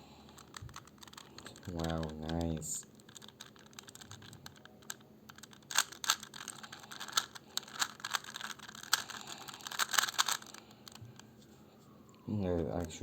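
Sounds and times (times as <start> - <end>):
puzzle cube plastic clicks: 0.2 - 11.3.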